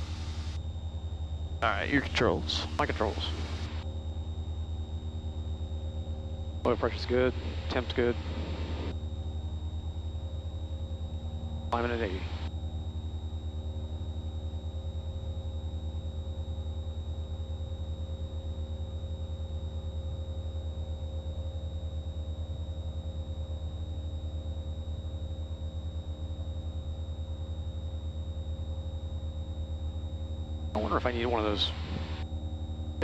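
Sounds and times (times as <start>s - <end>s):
propeller engine drone in cabin: 0.0s - 33.0s.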